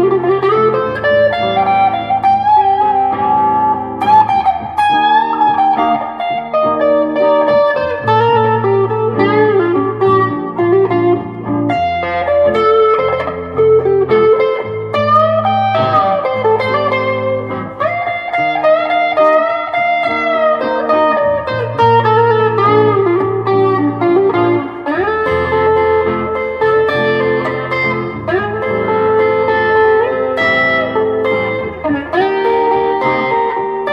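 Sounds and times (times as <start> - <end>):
electric guitar lead lines: 0.0 - 33.9
rhythm guitar backing: 0.0 - 33.9.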